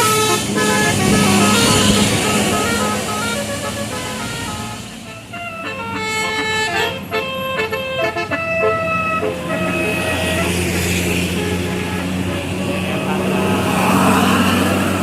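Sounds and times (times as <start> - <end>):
bus engine droning: 0.0 - 15.0
bus horn playing melody: 0.0 - 15.0.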